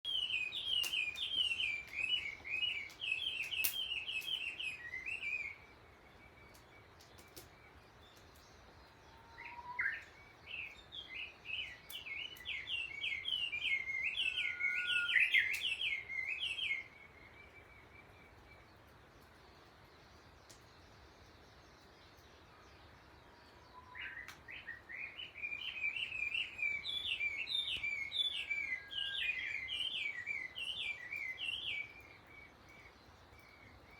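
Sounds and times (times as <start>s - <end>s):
warbler singing: 0.0s - 33.9s.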